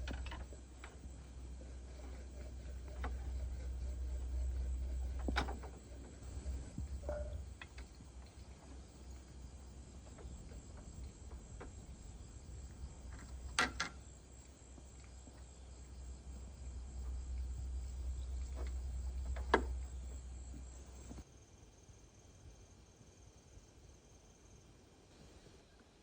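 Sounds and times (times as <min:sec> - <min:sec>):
steady low rumble: 0:00.0 - 0:21.2.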